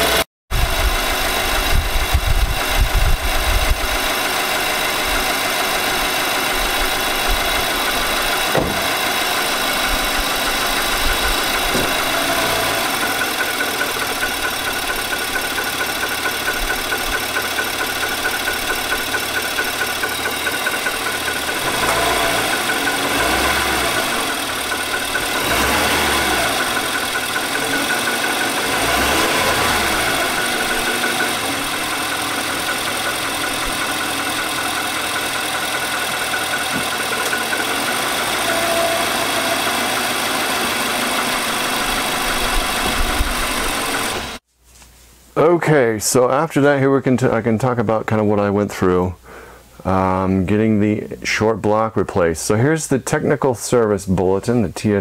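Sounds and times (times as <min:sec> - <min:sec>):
engine idling with heavy knock: 0:00.0 - 0:44.4.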